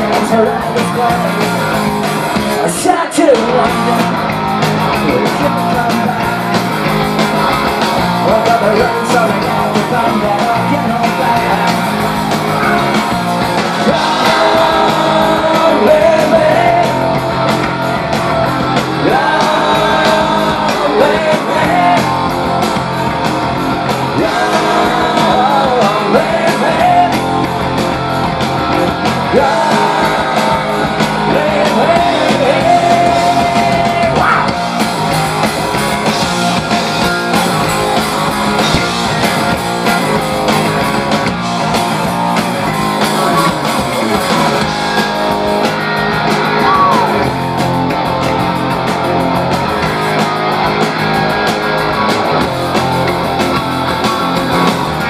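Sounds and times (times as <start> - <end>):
pitch-bending guitar melody: 0.0 - 55.0
punk rock band playing: 0.0 - 55.0.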